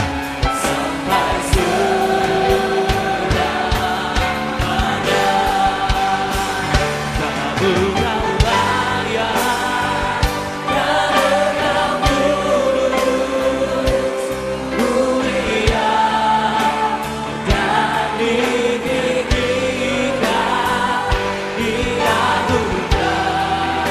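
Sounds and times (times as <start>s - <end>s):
band with drum beat: 0.0s - 23.9s
choir and congregation singing: 0.0s - 23.9s.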